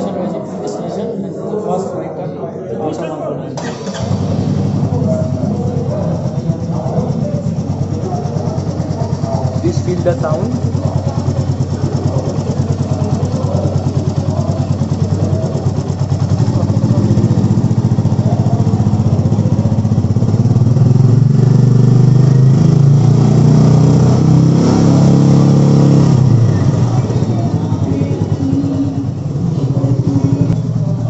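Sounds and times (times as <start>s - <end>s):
motorcycle engine revving: 3.6s - 31.0s.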